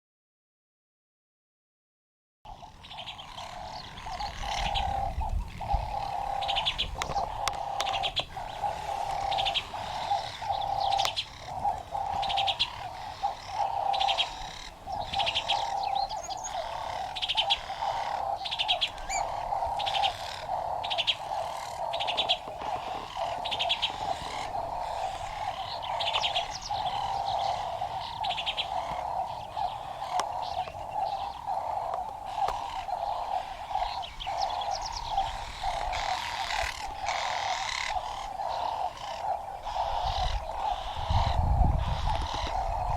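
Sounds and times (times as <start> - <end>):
low bird chatter: 2.5 - 42.9.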